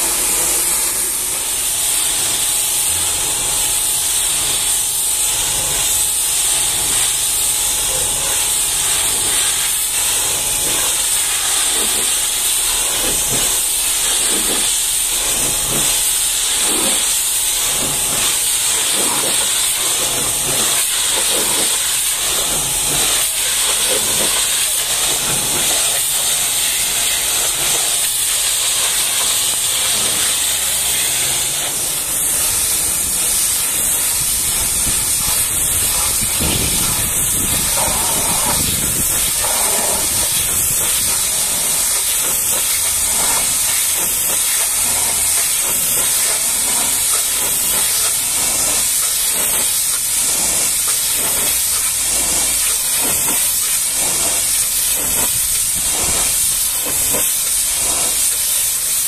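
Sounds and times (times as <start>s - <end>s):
pressure washer spraying: 0.0s - 59.0s.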